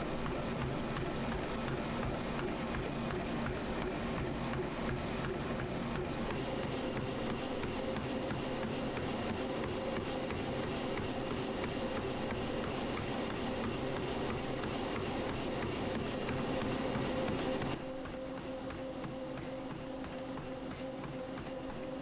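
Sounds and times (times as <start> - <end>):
footfalls on treadmill: 0.0 - 22.0
treadmill motor hum: 0.0 - 22.0.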